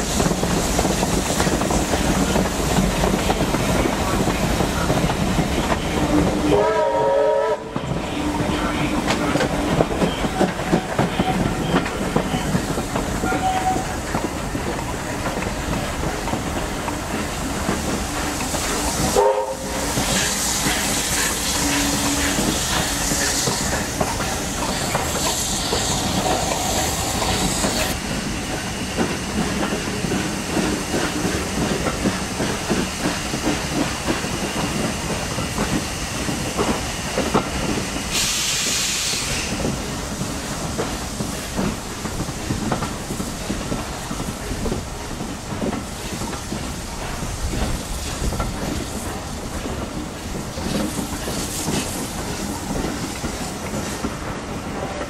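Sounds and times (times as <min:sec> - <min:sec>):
clickety-clack over rail joints: 0:00.0 - 0:55.0
train wheels rumbling: 0:00.0 - 0:55.0.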